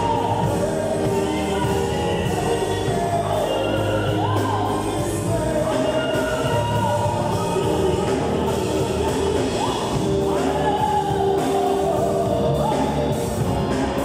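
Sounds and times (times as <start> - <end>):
guitar: 0.0 - 14.0
keyboard: 0.0 - 14.0
man singing into a microphone: 0.0 - 14.0.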